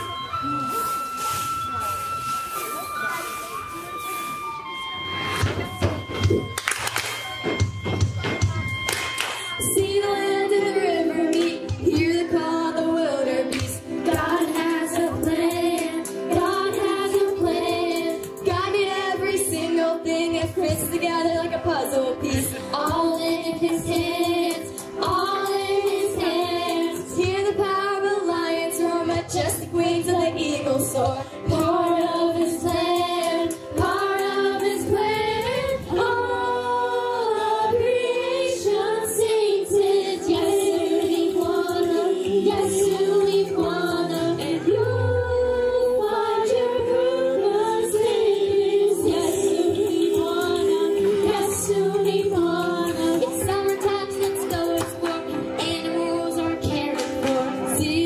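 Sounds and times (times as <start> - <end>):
choir singing with instruments: 9.4 - 58.0.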